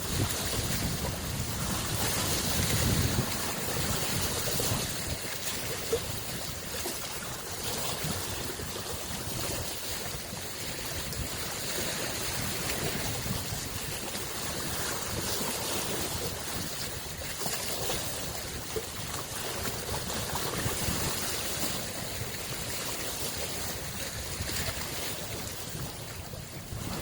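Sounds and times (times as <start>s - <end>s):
lake waves lapping on shore: 0.0s - 27.0s.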